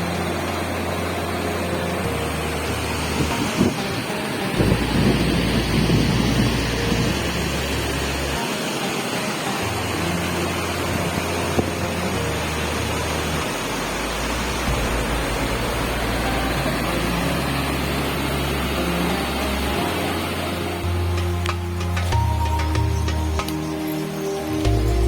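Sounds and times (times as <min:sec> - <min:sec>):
low sustained music tones: 0:00.0 - 0:25.0
waterfall rushing: 0:00.0 - 0:25.0.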